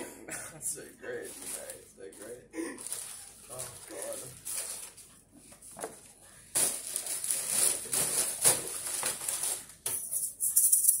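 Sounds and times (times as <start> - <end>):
rustling and crinkling handling noise: 0.8 - 9.9.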